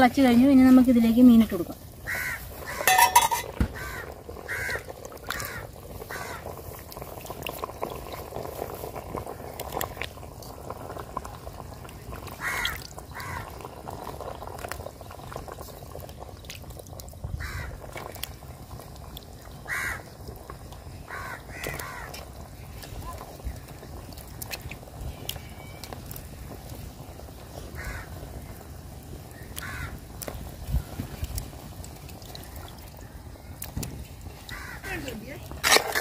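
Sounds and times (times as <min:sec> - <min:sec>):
curry bubbling: 0:00.0 - 0:36.0
fish splashing into pot: 0:02.0 - 0:28.5, 0:29.2 - 0:36.0.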